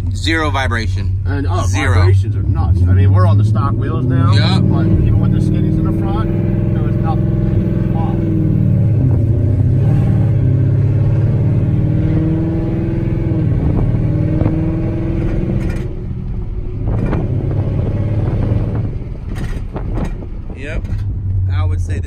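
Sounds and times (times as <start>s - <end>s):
car engine and exhaust: 0.0s - 22.0s.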